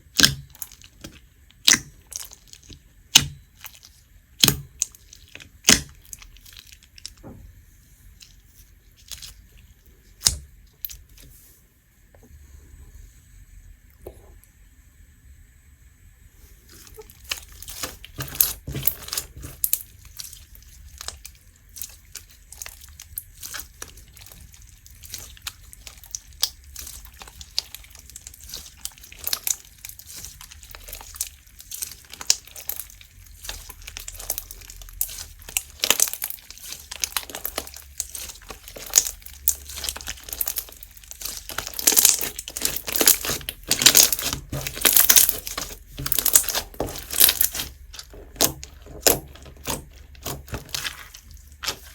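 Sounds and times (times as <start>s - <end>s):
slime crackling and popping: 0.0s - 7.2s, 16.8s - 51.9s.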